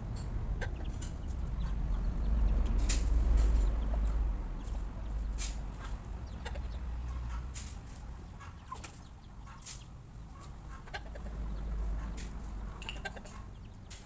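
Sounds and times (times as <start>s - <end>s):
steady low rumble: 0.0s - 13.9s
chickens clucking: 0.0s - 14.0s.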